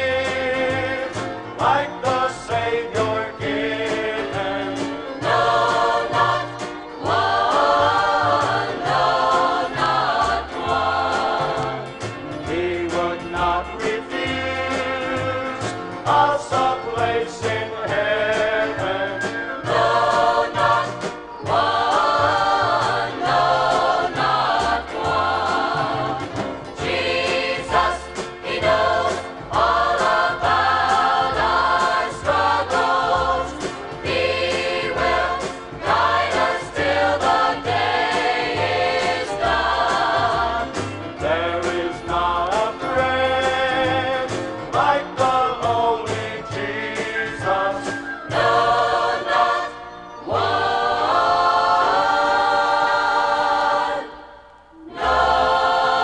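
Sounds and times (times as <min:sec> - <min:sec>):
choir singing gospel: 0:00.0 - 0:56.0
instrumental accompaniment: 0:00.0 - 0:56.0.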